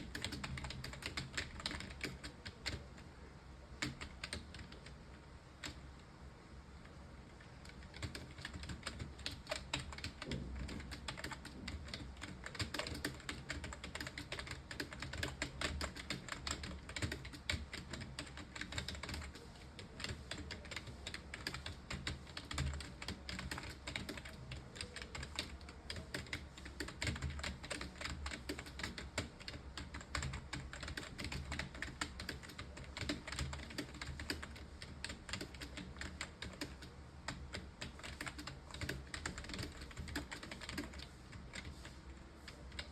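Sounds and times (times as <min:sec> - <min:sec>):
fast typing on keyboard: 0:00.0 - 0:03.0, 0:03.8 - 0:05.0, 0:07.6 - 0:41.9, 0:42.5 - 0:42.9.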